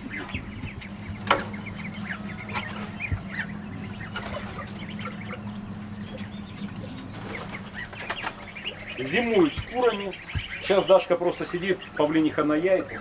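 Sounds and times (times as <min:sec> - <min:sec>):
short bird calls: 0:00.0 - 0:12.1
chickens clucking: 0:00.0 - 0:13.0
steady low hum: 0:00.0 - 0:13.0.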